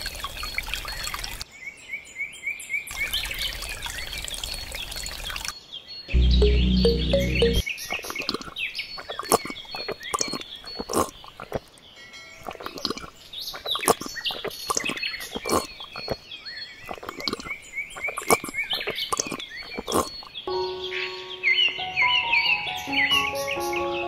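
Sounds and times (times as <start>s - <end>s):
birds chirping and twittering: 0.2s - 24.0s.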